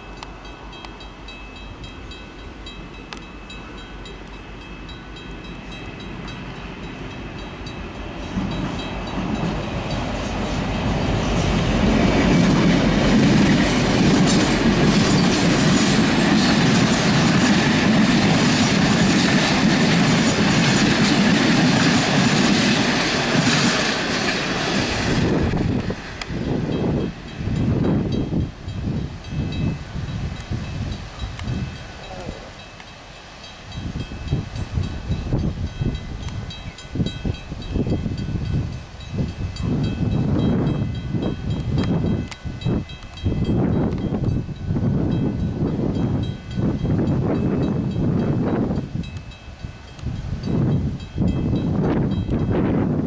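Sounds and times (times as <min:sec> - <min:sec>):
railway warning bell ringing: 0:00.0 - 0:53.0
train passing with rumble: 0:00.0 - 0:53.0.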